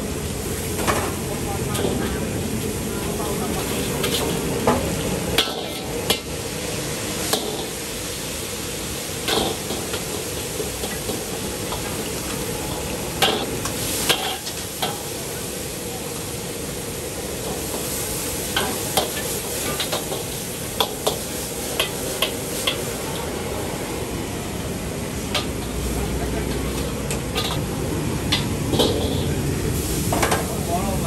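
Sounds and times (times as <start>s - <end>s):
noodles sizzling in hot oil: 0.0s - 31.0s.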